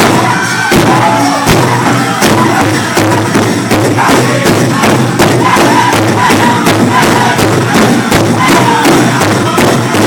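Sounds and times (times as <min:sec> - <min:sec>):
big drum beating: 0:00.0 - 0:10.0
group singing in high voices: 0:00.0 - 0:10.0.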